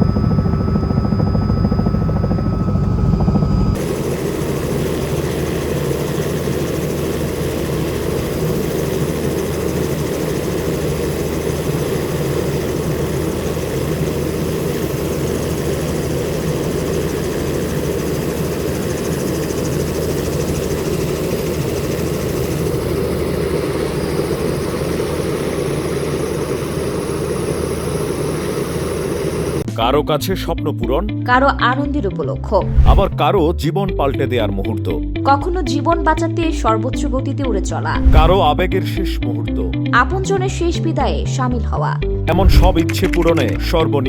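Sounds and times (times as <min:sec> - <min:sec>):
helicopter turbine and rotor: 0:00.0 - 0:29.7, 0:32.6 - 0:33.2, 0:35.9 - 0:39.5, 0:42.3 - 0:44.0.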